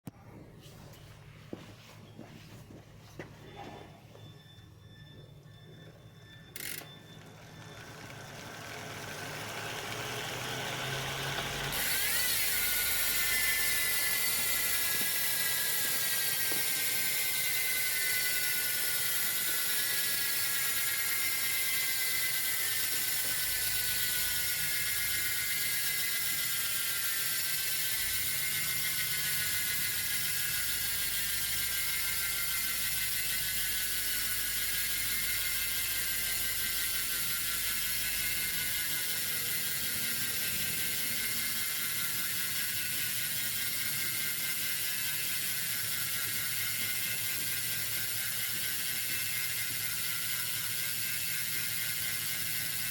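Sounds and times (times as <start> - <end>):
bicycle freehub ratchet clicking: 6.2 - 52.9.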